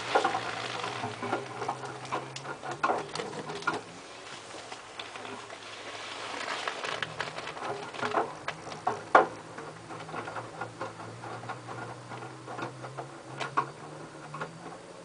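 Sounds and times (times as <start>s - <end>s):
low motor hum: 0.0s - 15.0s
washing machine tumbling laundry: 0.0s - 15.0s.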